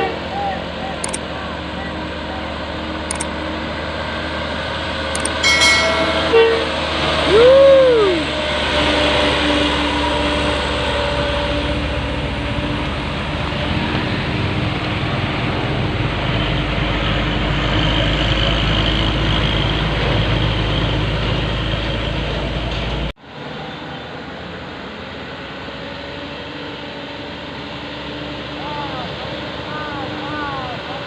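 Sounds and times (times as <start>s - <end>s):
diesel truck engine droning: 0.0s - 31.0s.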